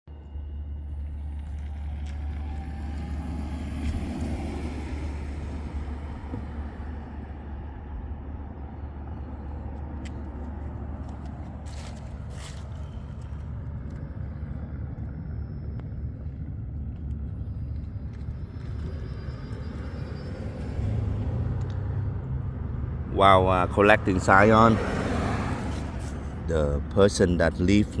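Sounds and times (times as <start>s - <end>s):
low traffic rumble: 0.0s - 28.0s
car passing: 0.1s - 28.0s.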